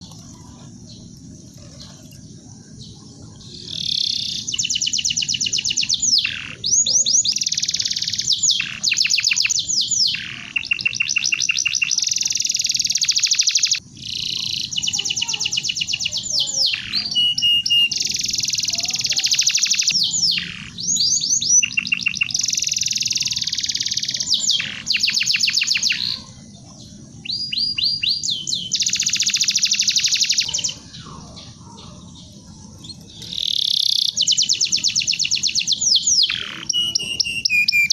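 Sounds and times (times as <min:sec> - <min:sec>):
canary singing trills: 0:00.0 - 0:37.9.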